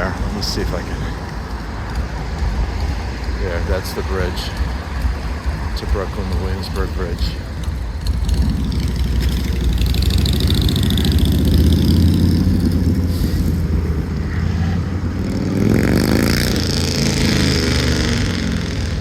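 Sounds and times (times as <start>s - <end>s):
engine revving: 0.0s - 19.0s
low engine rumble of traffic: 0.0s - 19.0s.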